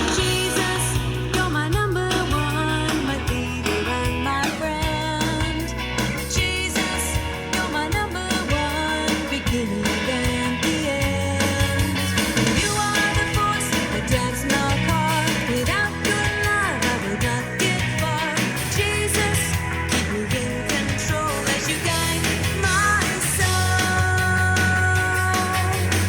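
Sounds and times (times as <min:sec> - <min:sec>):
band with drums bass guitar: 0:00.0 - 0:26.0.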